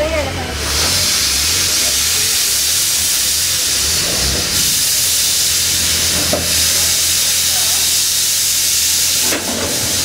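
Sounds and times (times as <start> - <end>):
steam venting hiss: 0.5 - 10.0.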